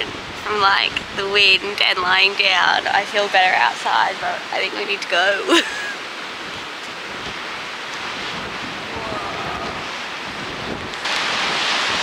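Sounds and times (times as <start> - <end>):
sea washing: 0.0 - 12.0
wind rushing over microphone: 0.0 - 12.0.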